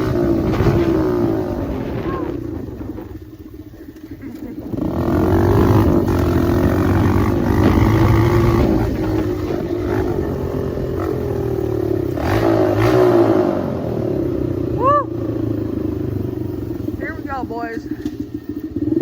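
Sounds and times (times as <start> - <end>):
dirt bike engine under throttle: 0.0 - 19.0.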